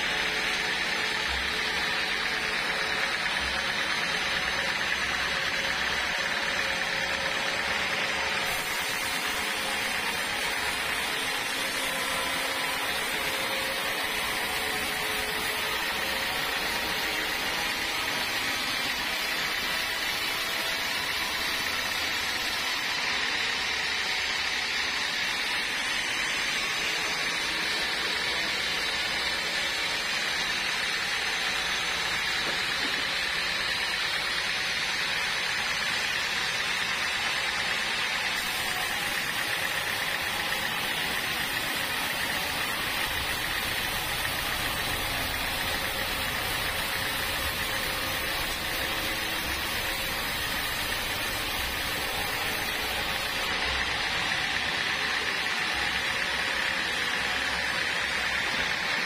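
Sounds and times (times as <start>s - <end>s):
saw blade cutting log: 0.0s - 59.0s
saw motor running under load: 0.0s - 59.0s.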